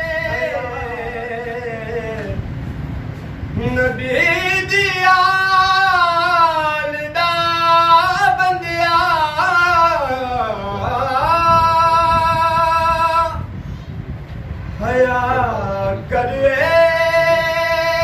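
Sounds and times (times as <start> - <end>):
person singing unaccompanied: 0.0 - 2.4, 3.6 - 13.5, 14.8 - 18.0.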